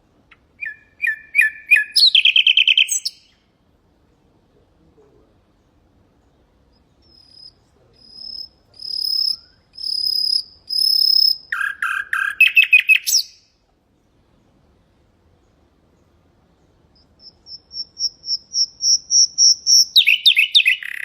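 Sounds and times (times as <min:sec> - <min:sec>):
nightingale singing: 0:00.2 - 0:04.3, 0:05.4 - 0:14.7, 0:15.3 - 0:21.0.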